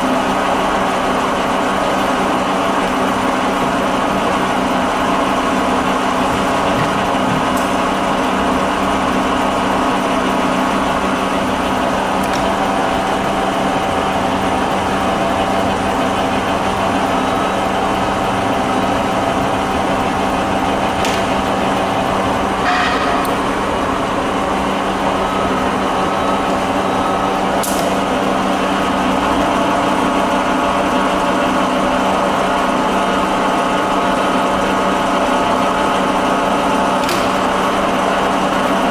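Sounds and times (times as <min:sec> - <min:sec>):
lathe humming: 0:00.0 - 0:38.9.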